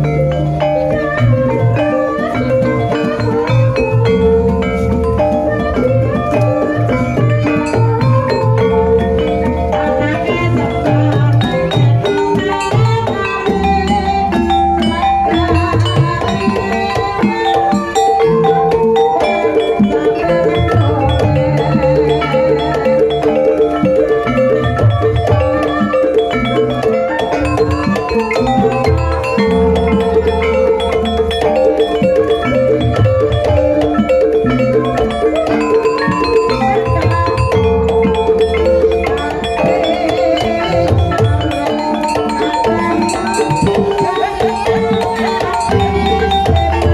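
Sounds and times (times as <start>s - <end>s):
held tone: 0.0s - 46.9s
tuned mallet-struck notes: 0.0s - 46.9s.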